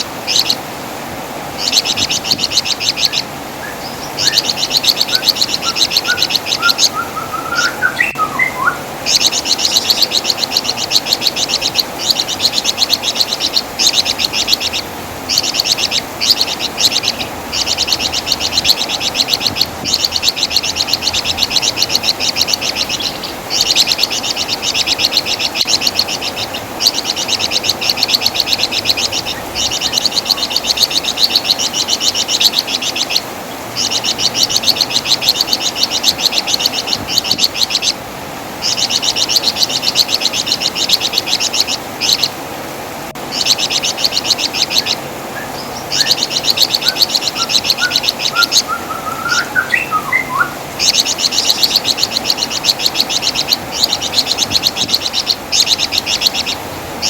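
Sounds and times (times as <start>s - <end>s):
bird chattering trill: 0.0s - 0.6s, 1.6s - 38.0s, 38.6s - 42.4s, 43.3s - 56.7s.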